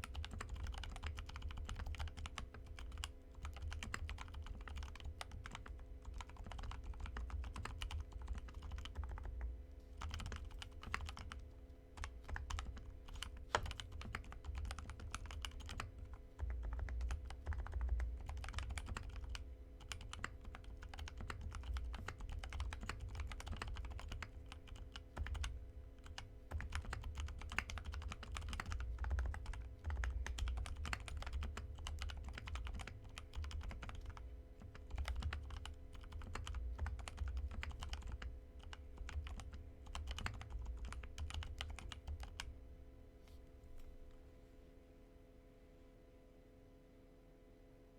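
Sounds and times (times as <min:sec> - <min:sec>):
typing on mechanical keyboard: 0:00.0 - 0:11.4, 0:12.0 - 0:42.5
faint steady hum: 0:00.0 - 0:47.9.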